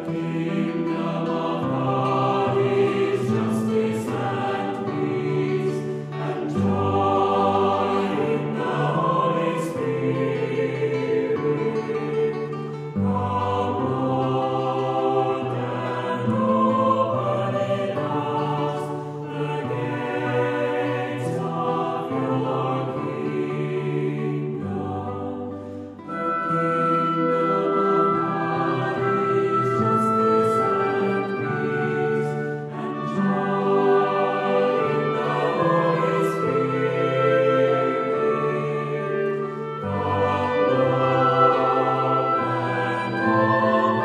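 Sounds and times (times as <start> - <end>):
choir singing held chords: 0.0 - 44.0
instrumental accompaniment: 0.0 - 44.0.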